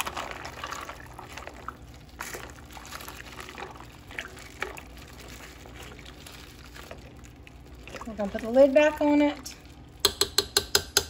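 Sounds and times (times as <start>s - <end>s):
spatula stirring pasta in sauce: 0.0s - 10.1s.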